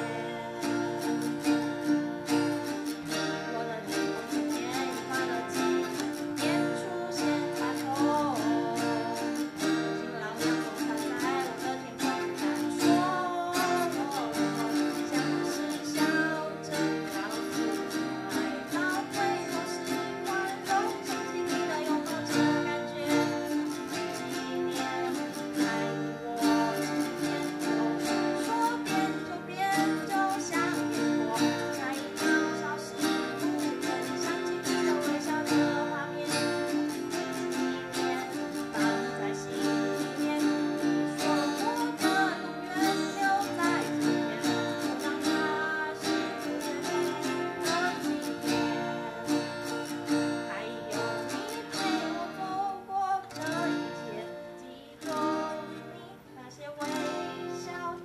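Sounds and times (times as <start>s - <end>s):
acoustic guitars strummed: 0.0s - 58.0s
girl singing into a microphone: 0.0s - 58.0s.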